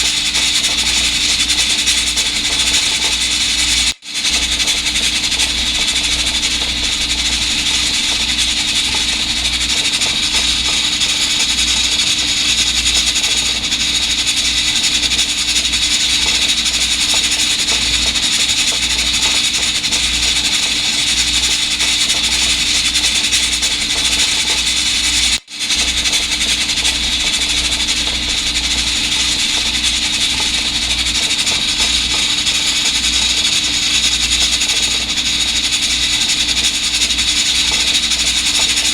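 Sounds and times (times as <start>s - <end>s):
rice cooker hissing: 0.0s - 38.9s.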